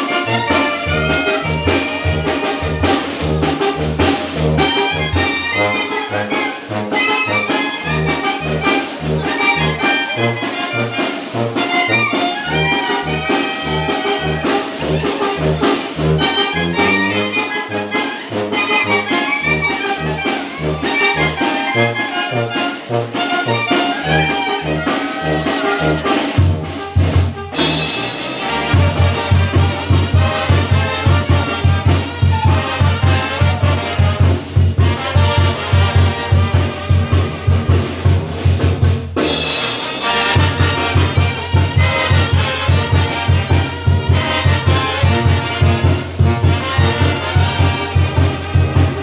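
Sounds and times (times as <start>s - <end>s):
brass band playing: 0.0s - 49.0s
drum kit: 0.0s - 49.0s
trombones and trumpets melody: 0.0s - 49.0s.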